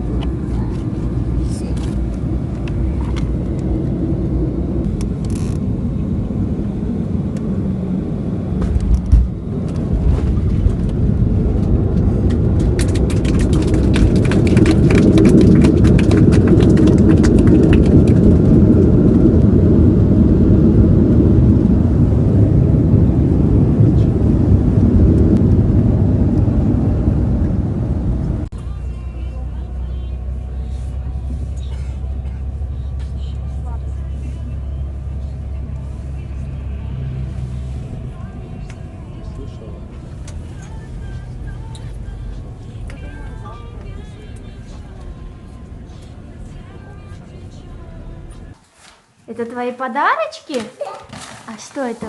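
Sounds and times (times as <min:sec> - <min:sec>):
jet engines droning: 0:00.0 - 0:48.4.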